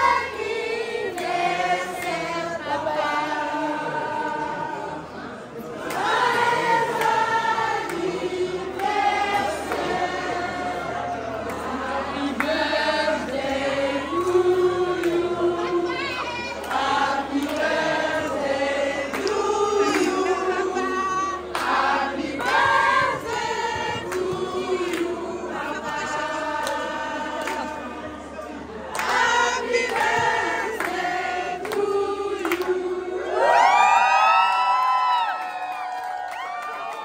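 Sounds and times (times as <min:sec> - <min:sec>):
choir singing a hymn: 0:00.0 - 0:33.9.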